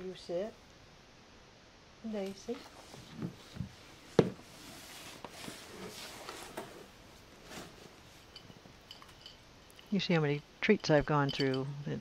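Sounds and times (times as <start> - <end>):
quiet rustling: 2.1 - 11.8.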